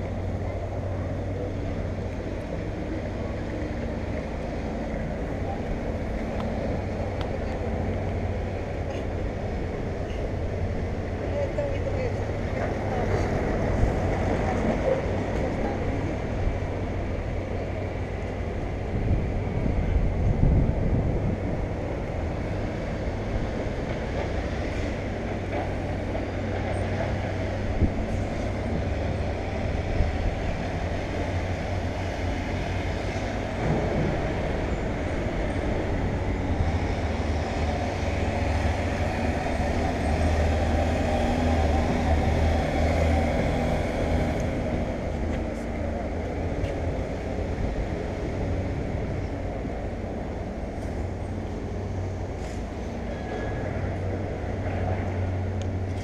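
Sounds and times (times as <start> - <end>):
dump truck diesel engine droning: 0.0 - 56.0
heavy vehicle engines rumbling: 0.0 - 56.0.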